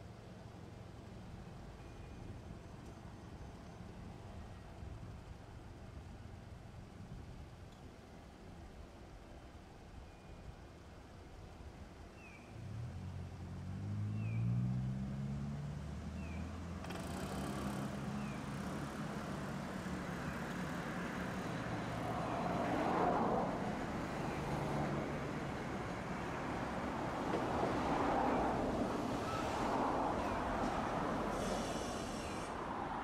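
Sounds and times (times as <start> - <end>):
road or rail noise: 0.0 - 33.0.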